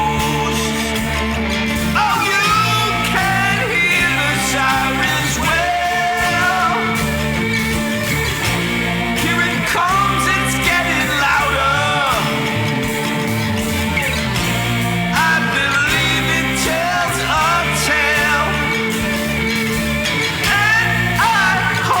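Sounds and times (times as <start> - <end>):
bending high lead guitar line: 0.0 - 22.0
rock band playing: 0.0 - 22.0.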